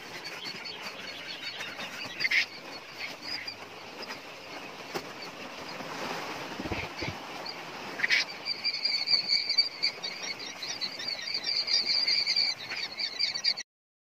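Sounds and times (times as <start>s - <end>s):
chicks peeping: 0.0s - 13.6s.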